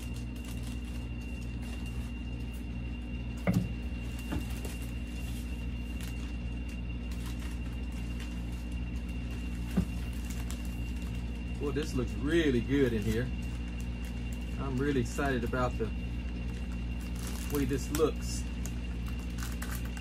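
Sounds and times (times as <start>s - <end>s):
plastic bag crinkling: 0.0s - 2.9s, 3.8s - 20.0s
steady low hum: 0.0s - 20.0s.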